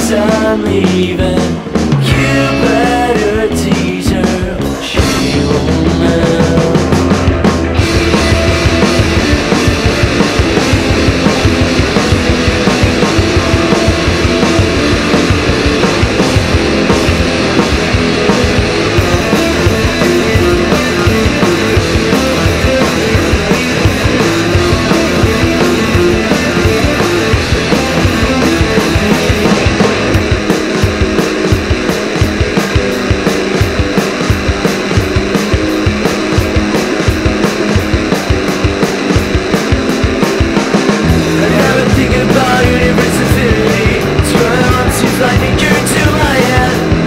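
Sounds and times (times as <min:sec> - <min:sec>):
electric guitars: 0:00.0 - 0:47.0
steady drum beat: 0:00.0 - 0:47.0.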